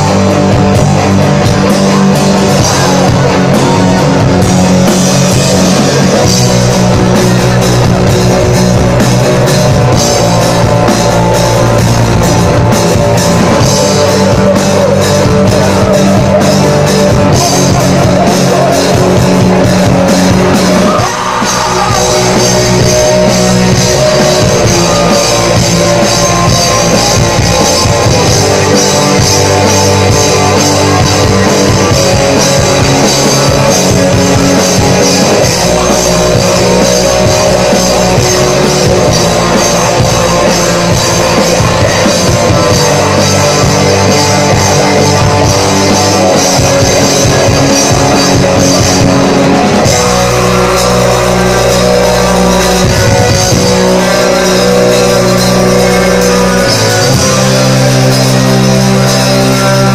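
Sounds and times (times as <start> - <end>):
distorted electric guitars: 0.0 - 59.9
drum kit with busy cymbals: 0.0 - 59.9.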